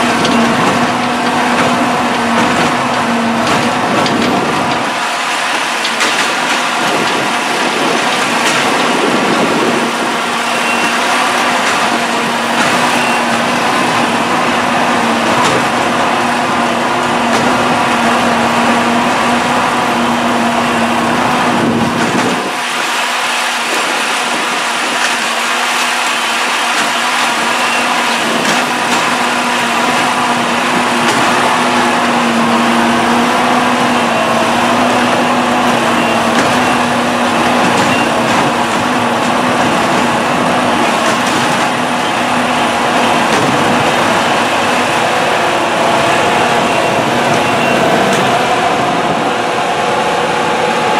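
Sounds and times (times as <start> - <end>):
diesel engine running under load: 0.0 - 50.9.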